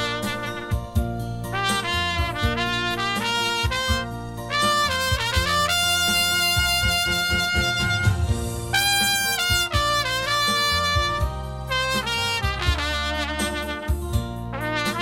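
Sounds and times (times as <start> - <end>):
backing music with bass and drums: 0.0 - 15.0
trumpet playing slow melody: 0.0 - 15.0.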